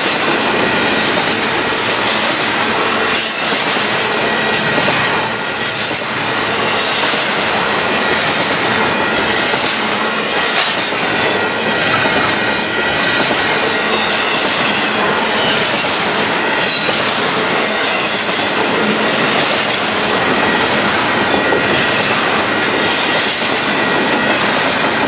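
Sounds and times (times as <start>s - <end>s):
train wheels clattering on rails: 0.0s - 25.0s
wheel squeal against rails: 1.4s - 24.8s.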